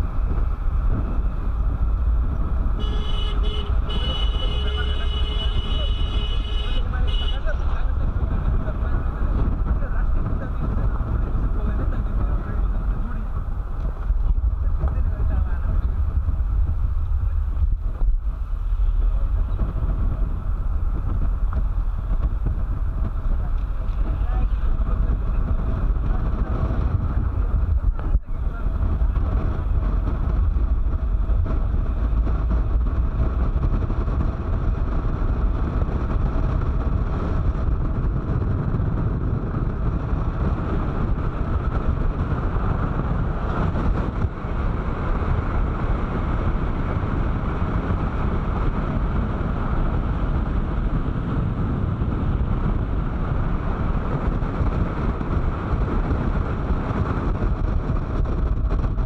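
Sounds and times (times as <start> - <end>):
vehicle road and engine noise: 0.0 - 59.0
wind rushing over microphone: 0.0 - 59.0.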